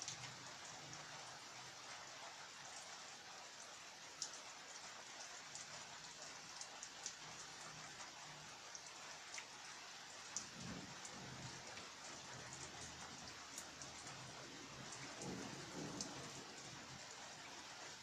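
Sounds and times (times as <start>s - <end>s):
raindrops ticking close by: 0.0s - 18.0s
steady rain hiss: 0.0s - 18.0s.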